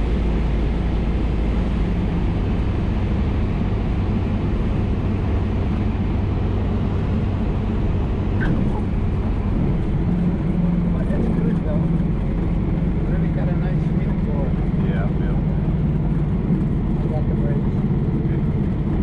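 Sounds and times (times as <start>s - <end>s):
airplane engine drone: 0.0s - 19.0s.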